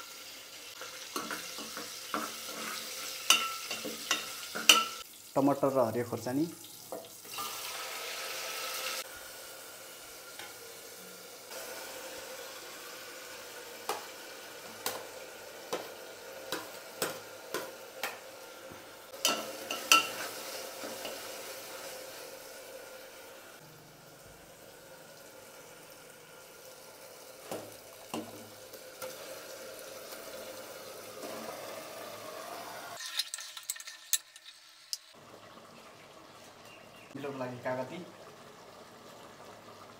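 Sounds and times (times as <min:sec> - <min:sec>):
vegetables sizzling in hot oil: 0:00.0 - 0:39.9.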